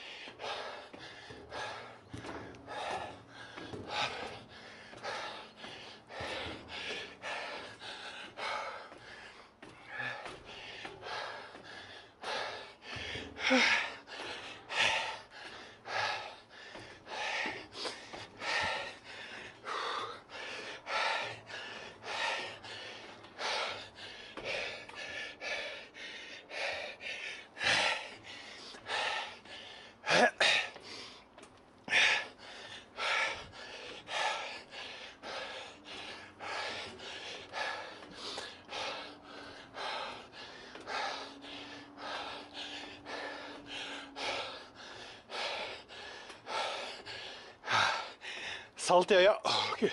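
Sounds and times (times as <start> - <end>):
man panting: 0.0 - 49.9.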